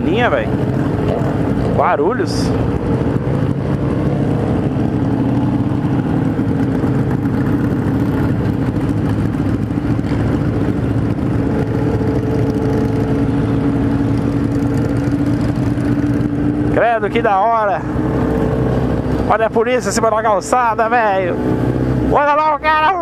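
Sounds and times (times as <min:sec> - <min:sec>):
motorcycle engine running: 0:00.0 - 0:23.0
other motorcycle engines: 0:00.0 - 0:23.0.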